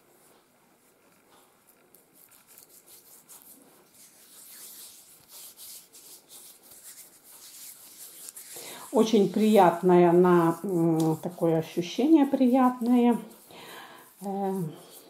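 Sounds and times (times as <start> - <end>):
fingers rubbing ointment on skin: 1.6 - 15.0.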